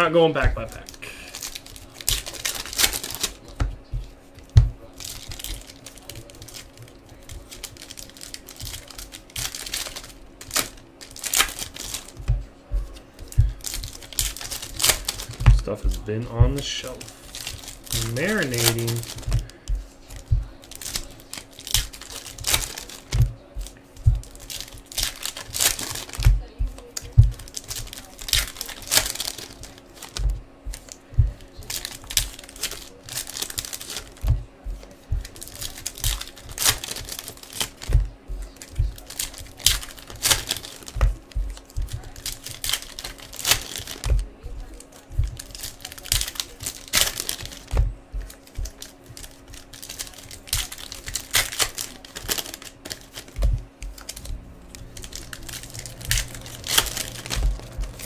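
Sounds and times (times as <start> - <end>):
foil wrappers crinkling and tearing: 0.0 - 58.0.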